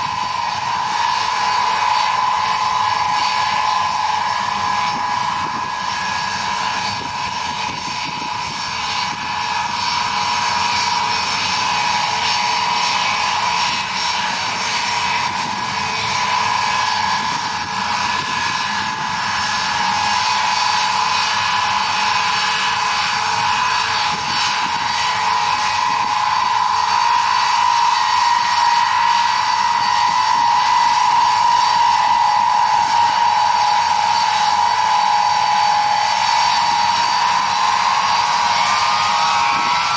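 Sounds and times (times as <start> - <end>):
jet engines whining at low power: 0.0 - 39.9.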